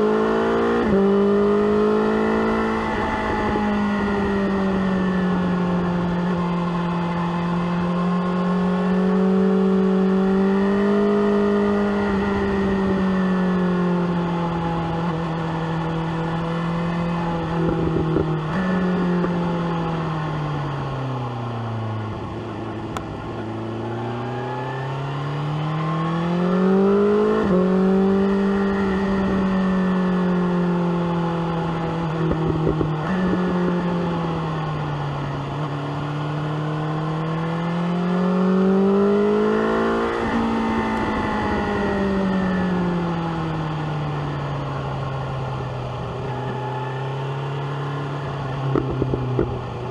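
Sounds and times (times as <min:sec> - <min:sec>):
motorcycle engine and exhaust: 0:00.0 - 0:49.9.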